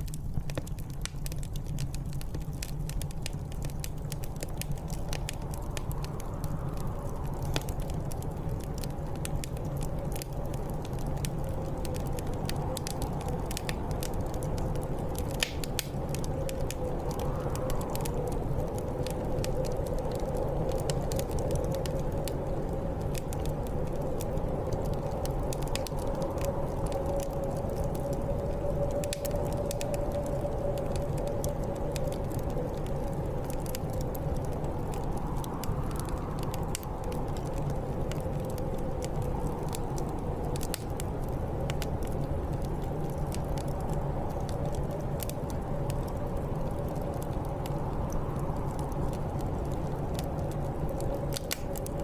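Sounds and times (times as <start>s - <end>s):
wind whistling: 0.0s - 52.0s
wood fire crackling and popping: 0.0s - 52.0s.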